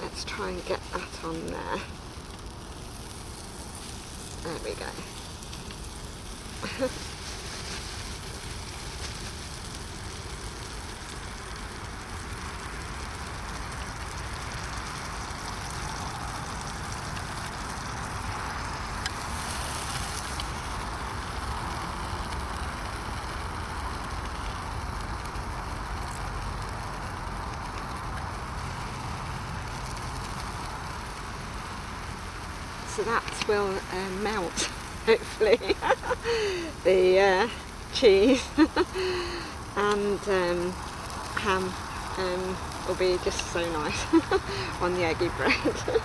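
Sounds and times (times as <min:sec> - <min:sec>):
bread sizzling in a pan: 0:00.0 - 0:46.0
gas burner hiss: 0:00.0 - 0:46.0.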